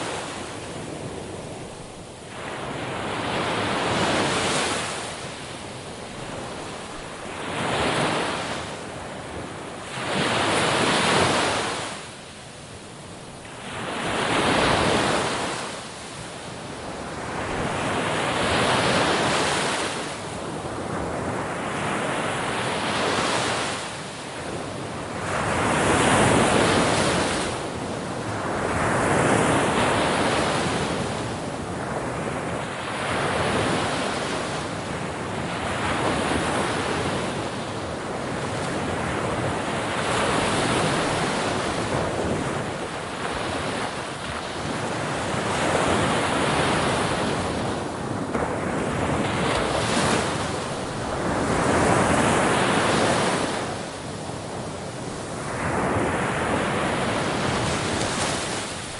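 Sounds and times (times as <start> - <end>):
ocean waves breaking on shore: 0.0 - 58.9.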